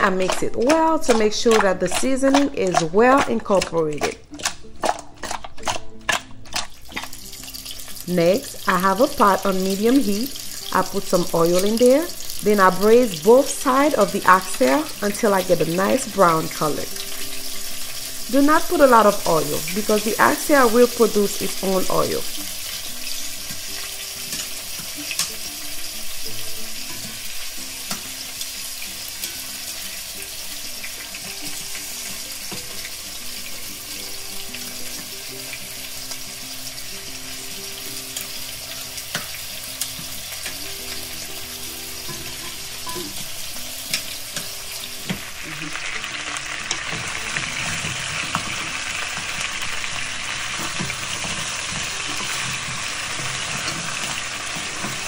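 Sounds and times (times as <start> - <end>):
meat sizzling in hot oil: 4.8 - 55.0.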